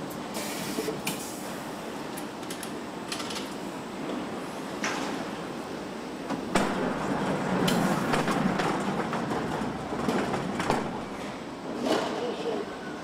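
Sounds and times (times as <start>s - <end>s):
factory machinery rumble and rattle: 1.4s - 13.0s.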